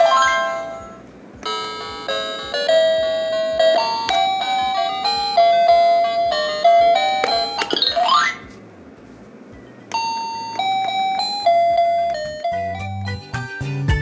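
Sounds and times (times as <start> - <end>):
electronic toy beeping melody: 0.0 - 8.4, 9.6 - 13.5.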